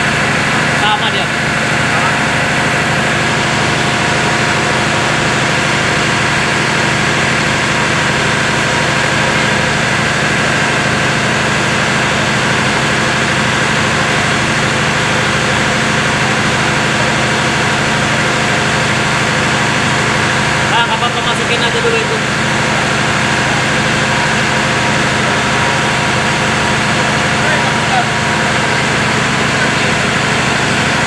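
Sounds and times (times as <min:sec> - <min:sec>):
engine droning: 0:00.0 - 0:31.0.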